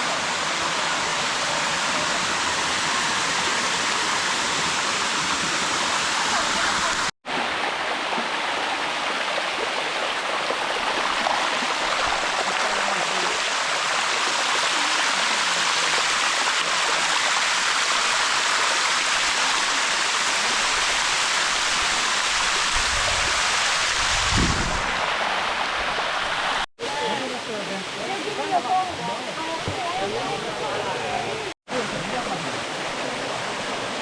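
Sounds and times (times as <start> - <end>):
waterfall rushing over rocks: 0.0 - 34.0.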